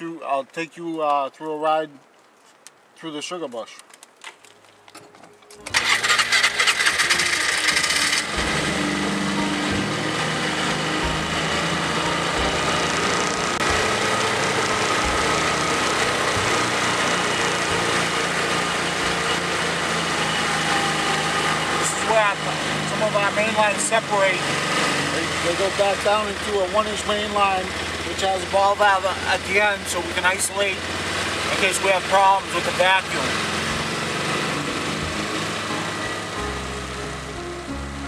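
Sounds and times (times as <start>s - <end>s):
small vehicle engine running: 5.6s - 37.9s.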